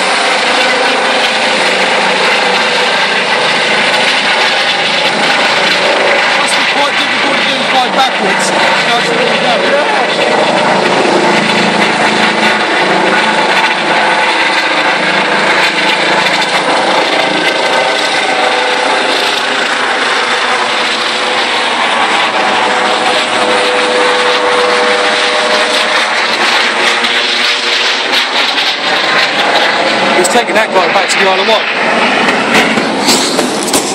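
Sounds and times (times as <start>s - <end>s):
helicopter flying overhead: 0.0s - 33.9s.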